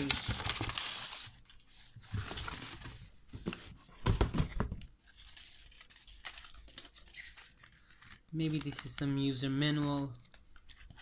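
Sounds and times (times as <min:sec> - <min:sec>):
cardboard and paper rustling: 0:00.0 - 0:11.0.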